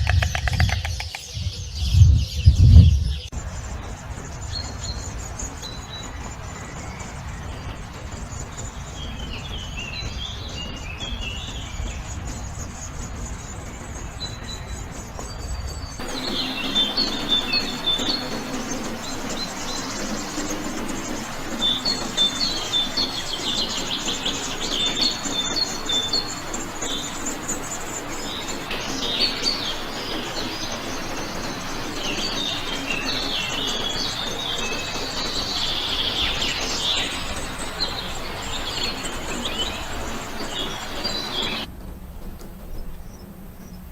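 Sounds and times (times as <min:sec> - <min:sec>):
small birds chirping and trilling: 0:00.0 - 0:41.7.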